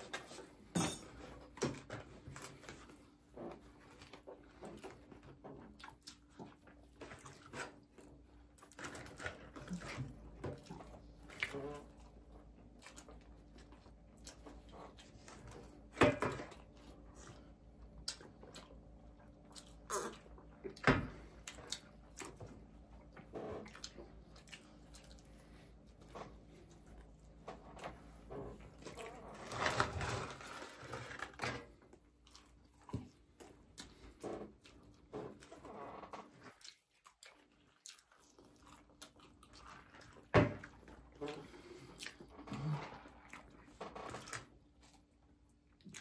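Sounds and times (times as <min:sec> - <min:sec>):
people chewing: 0:02.2 - 0:46.0.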